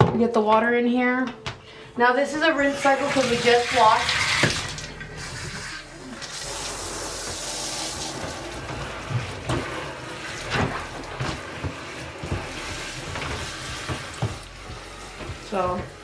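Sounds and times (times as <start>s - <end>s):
water spraying into tub: 2.5s - 16.0s.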